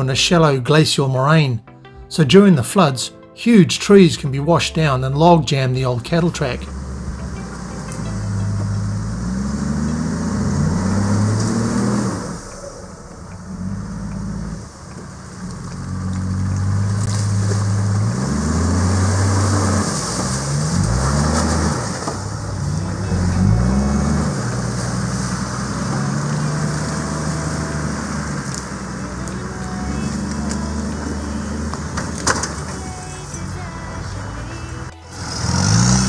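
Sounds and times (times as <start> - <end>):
engine revving: 5.6 - 36.0
water splashing around wheels: 6.2 - 36.0.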